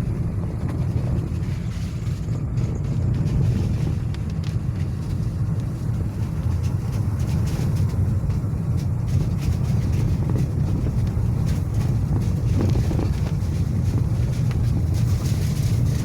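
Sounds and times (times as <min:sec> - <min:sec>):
engine and road noise: 0:00.0 - 0:16.0
wind: 0:00.0 - 0:16.0.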